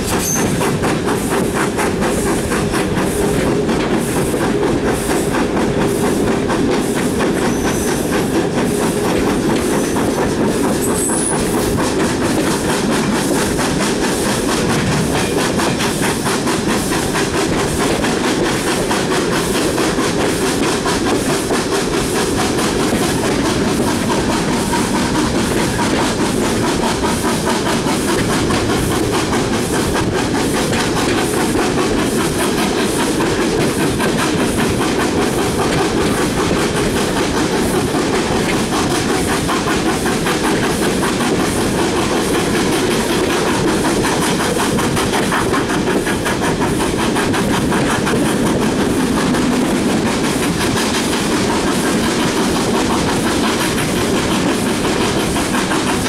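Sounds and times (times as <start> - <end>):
train coaches rumbling: 0.0 - 56.0
wheels clickety-clack over rail joints: 0.0 - 56.0.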